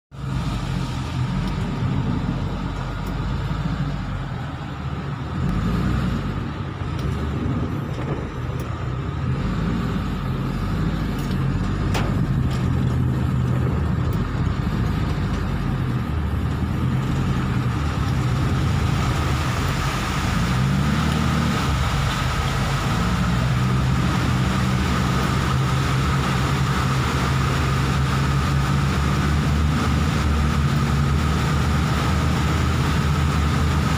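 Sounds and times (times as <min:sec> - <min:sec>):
car engine running: 0:00.1 - 0:33.9
hiss of water under tyres: 0:05.4 - 0:33.9.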